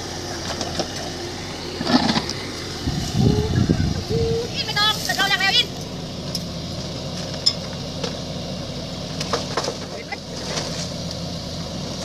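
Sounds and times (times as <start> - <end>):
mini excavator engine running: 0.0 - 12.0.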